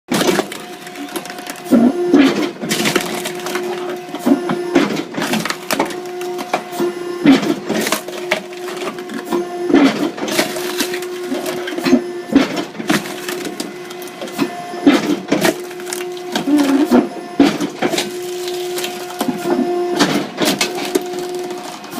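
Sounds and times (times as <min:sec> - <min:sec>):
wood cracking and splintering: 0:00.1 - 0:04.2, 0:04.8 - 0:06.6, 0:07.3 - 0:14.4, 0:15.0 - 0:16.9, 0:17.7 - 0:21.9
hydraulic pump hum: 0:00.1 - 0:21.9.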